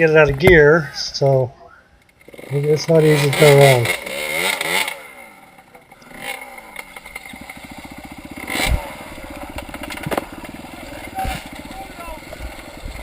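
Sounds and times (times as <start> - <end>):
dirt bike engine revving and chugging: 2.0 - 13.0.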